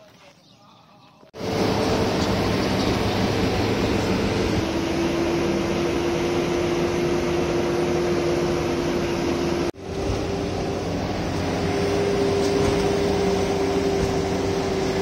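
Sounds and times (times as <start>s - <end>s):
engine hum: 1.3s - 15.0s
road and wind noise in cab: 1.3s - 15.0s.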